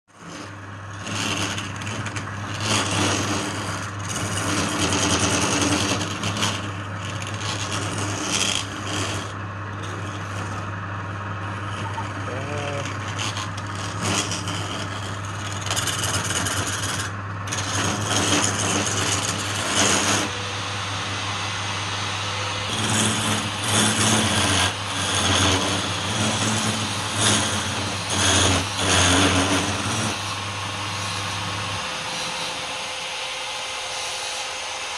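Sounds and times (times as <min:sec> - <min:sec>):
lathe motor hum: 0:00.1 - 0:34.9
tool scraping spinning wood: 0:00.1 - 0:34.9.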